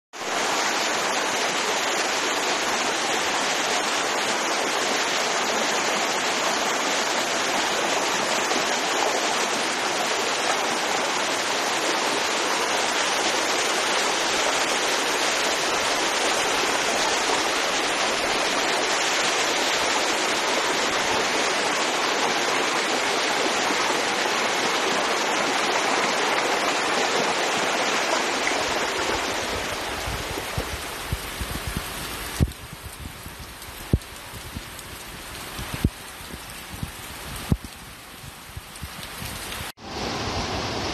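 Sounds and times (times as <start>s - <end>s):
heavy rain: 0.1s - 40.9s
floodwater rushing: 0.2s - 40.9s.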